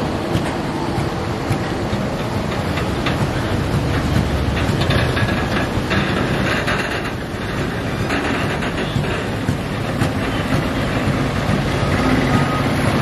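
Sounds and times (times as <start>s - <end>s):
faint clicks and knocks: 0.0s - 13.0s
truck engines rumbling: 0.0s - 13.0s
tyres rolling: 0.0s - 13.0s.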